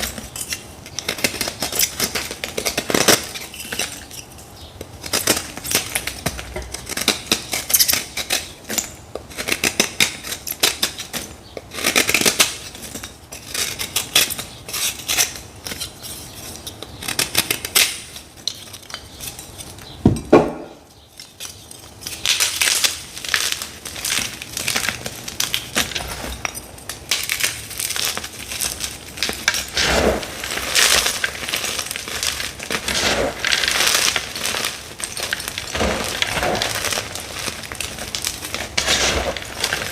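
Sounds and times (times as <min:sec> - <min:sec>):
chalk blocks crunching: 0:00.0 - 0:20.0, 0:21.2 - 0:39.9.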